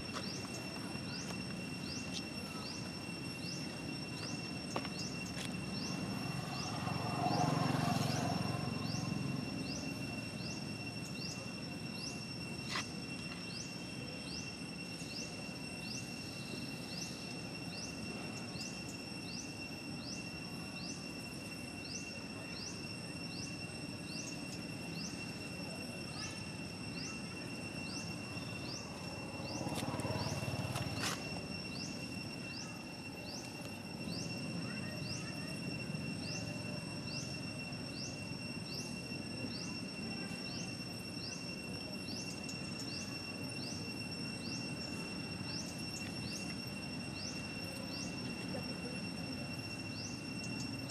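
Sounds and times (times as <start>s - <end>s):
high-pitched insect drones: 0.0s - 50.9s
short rising insect chirp: 0.0s - 50.9s.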